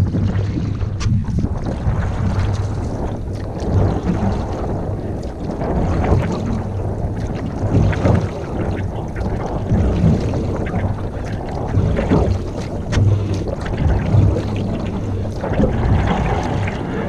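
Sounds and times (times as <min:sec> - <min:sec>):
canoe paddling water sloshing: 0:00.0 - 0:17.0
wind rumbling on microphone: 0:00.0 - 0:17.0.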